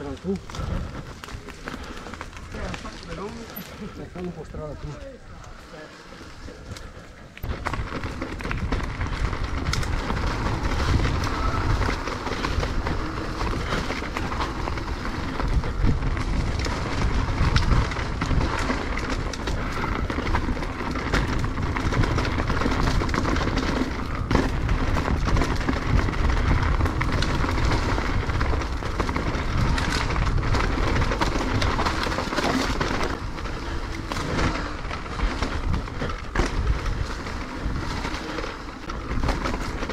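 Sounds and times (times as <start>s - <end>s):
bike rattling and knocking: 0.0s - 5.0s, 6.5s - 39.9s
mountain bike riding down trail: 0.0s - 39.9s.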